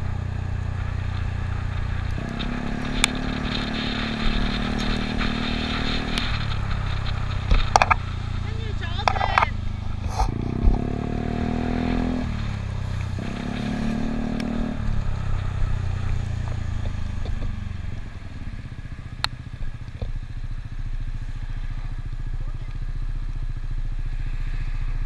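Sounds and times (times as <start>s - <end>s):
scooter engine accelerating: 0.0s - 25.0s.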